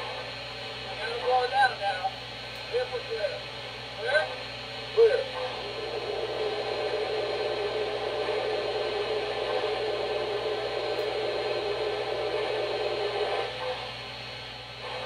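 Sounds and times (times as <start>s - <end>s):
model locomotive hiss and whir: 0.0s - 15.0s.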